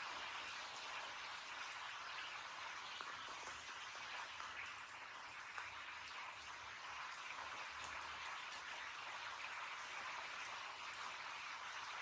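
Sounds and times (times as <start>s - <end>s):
steady rain falling: 0.0s - 12.0s
faint drip ticks: 0.4s - 11.9s.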